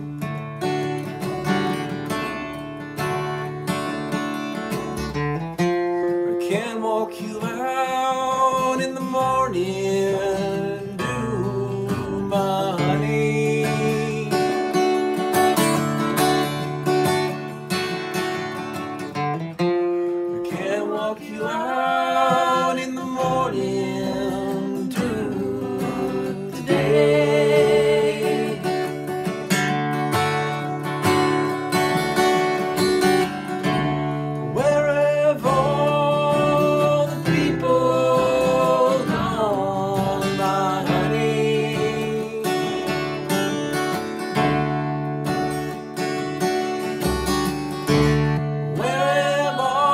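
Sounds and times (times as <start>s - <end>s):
acoustic guitar with pitch bends: 0.0s - 49.9s.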